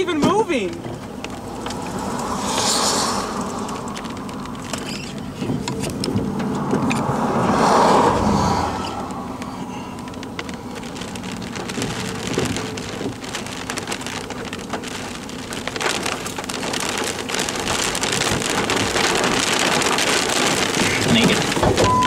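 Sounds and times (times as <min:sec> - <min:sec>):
rain pattering on car roof: 0:00.0 - 0:22.0.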